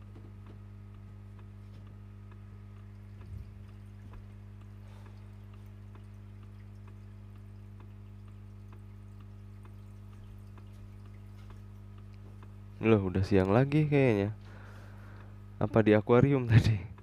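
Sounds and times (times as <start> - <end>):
faint regular ticks: 0.0 - 15.8
low electrical hum: 0.0 - 17.0.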